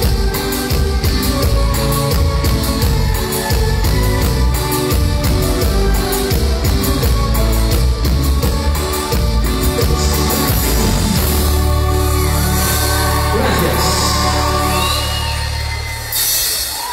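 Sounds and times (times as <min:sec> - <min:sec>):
drum kit: 0:00.0 - 0:16.9
live band music: 0:00.0 - 0:16.9.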